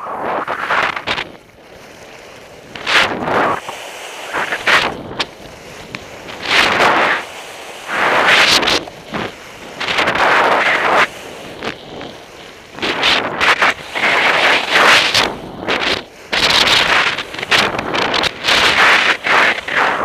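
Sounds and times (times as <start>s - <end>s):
wind buffeting microphone: 0.0s - 3.7s, 4.3s - 20.0s.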